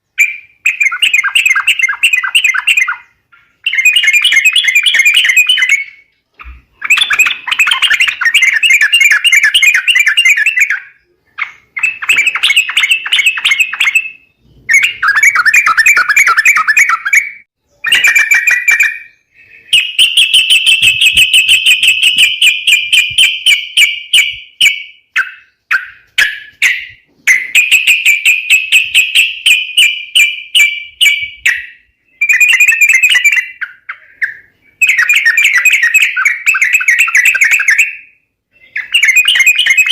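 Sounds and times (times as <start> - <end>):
bird chattering calls: 0.2 - 38.0, 38.6 - 39.9.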